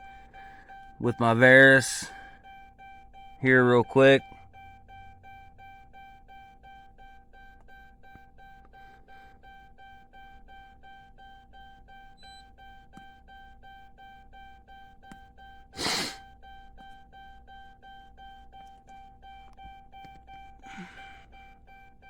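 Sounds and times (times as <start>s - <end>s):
electronic warning chime dinging: 0.0s - 22.0s.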